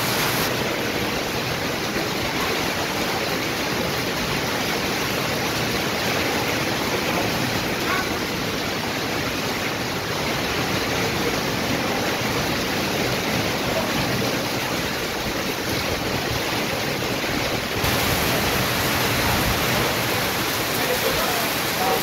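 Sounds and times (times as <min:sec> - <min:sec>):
heavy rain on metal roof: 0:00.0 - 0:22.0.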